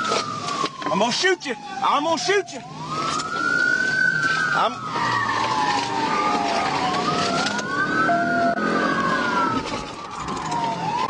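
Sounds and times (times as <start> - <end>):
car road and engine noise: 0.0 - 11.0
police siren wailing: 0.0 - 11.0.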